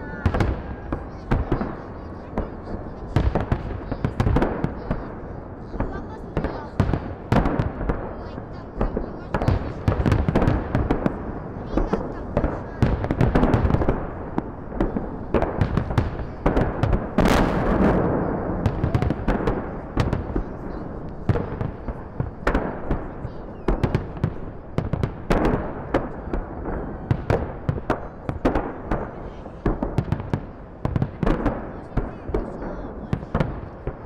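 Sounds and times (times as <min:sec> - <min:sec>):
fireworks banging and crackling: 0:00.0 - 0:34.0.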